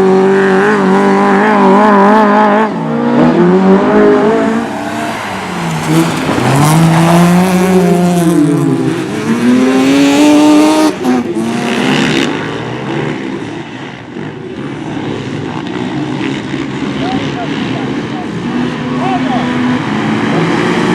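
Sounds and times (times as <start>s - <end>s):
race car engine revving: 0.0s - 20.9s.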